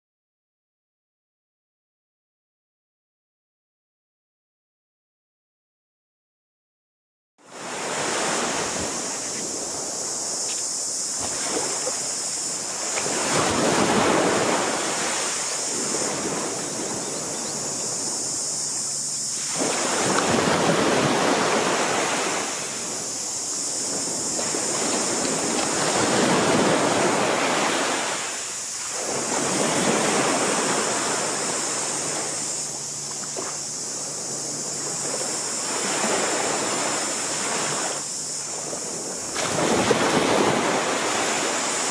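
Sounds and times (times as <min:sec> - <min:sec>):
waves washing onto beach: 0:07.4 - 0:41.9
wind: 0:07.4 - 0:41.9
steady high hiss: 0:07.6 - 0:41.9.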